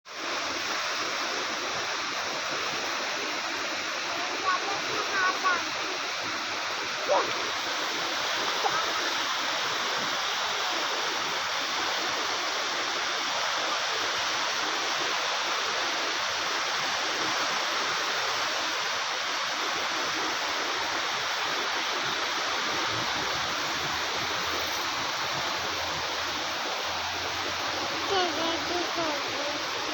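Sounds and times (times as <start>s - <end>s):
river rushing over rocks: 0.1s - 29.9s.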